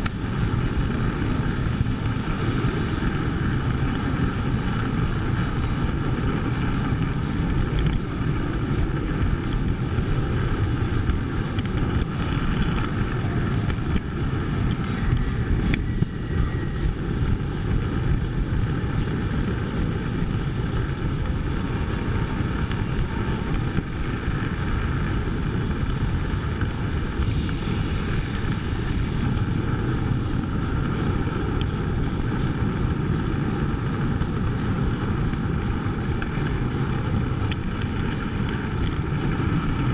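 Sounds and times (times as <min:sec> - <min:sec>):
model train rumble and clatter: 0:00.0 - 0:39.9.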